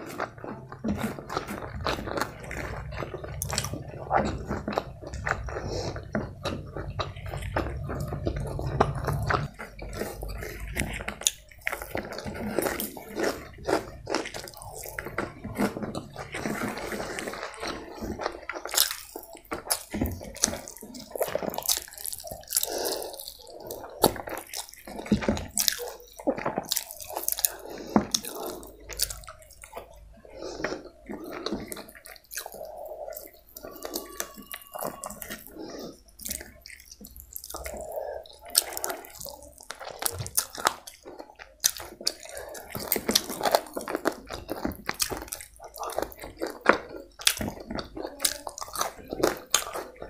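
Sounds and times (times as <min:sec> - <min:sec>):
wet chewing and lip smacks: 0:00.0 - 0:50.0.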